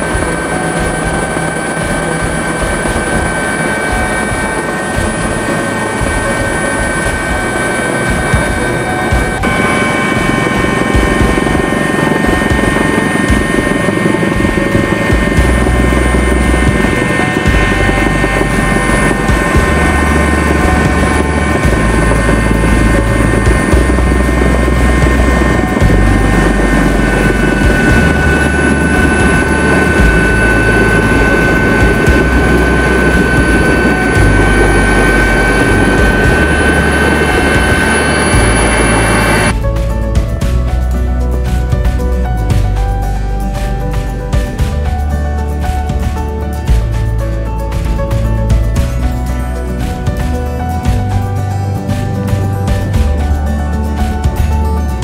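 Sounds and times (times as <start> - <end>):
helicopter rotor and turbine: 0.0 - 55.0
high whines: 0.0 - 55.0.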